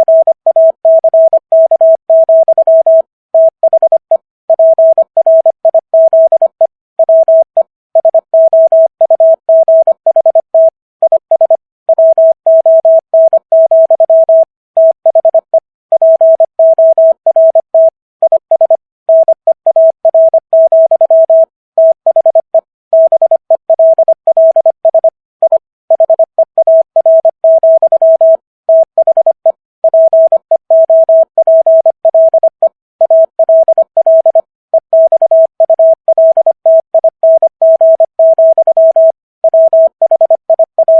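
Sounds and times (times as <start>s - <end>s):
morse code tone: 0.0s - 40.9s.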